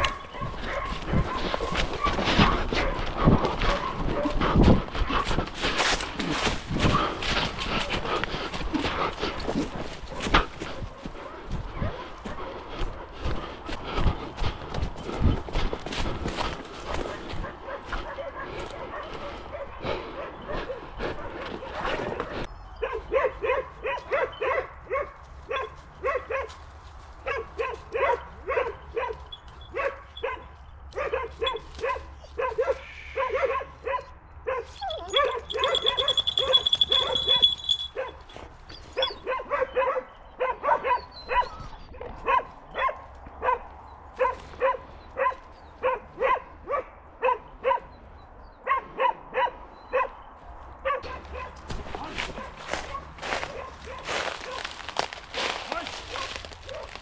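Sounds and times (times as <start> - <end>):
dog barking: 0.0 - 5.4, 9.2 - 12.9, 16.8 - 26.6, 27.2 - 38.4, 39.0 - 50.2, 50.8 - 57.0.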